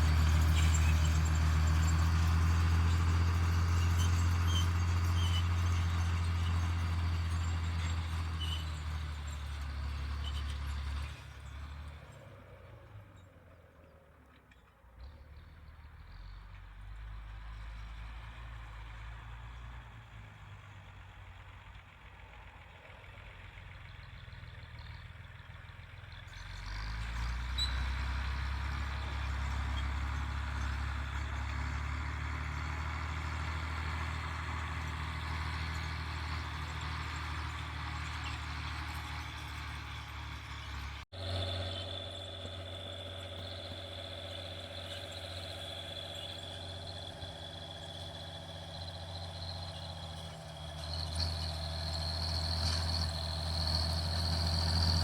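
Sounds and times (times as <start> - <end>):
tractor diesel engine running: 0.0 - 13.6, 15.1 - 55.0.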